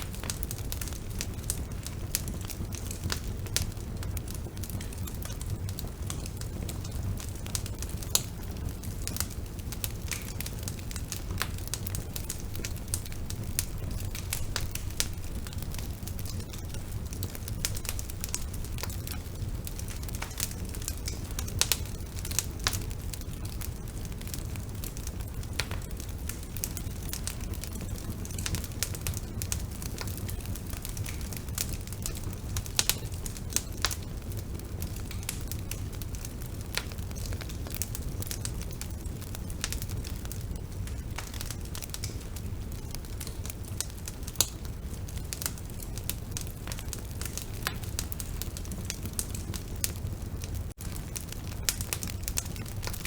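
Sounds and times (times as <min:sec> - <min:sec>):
bonfire rumbling: 0:00.0 - 0:53.0
burning wood crackling and popping: 0:00.0 - 0:53.0.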